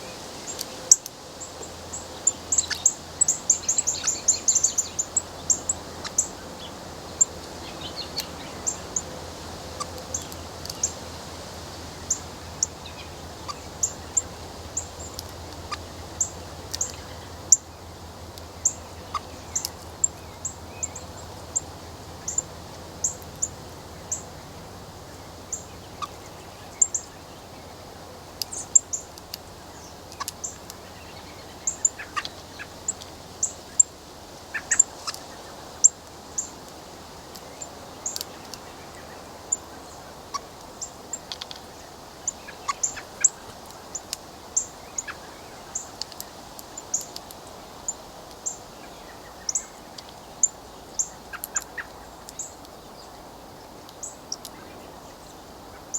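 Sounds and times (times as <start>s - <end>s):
birds chipping: 0.0s - 55.9s.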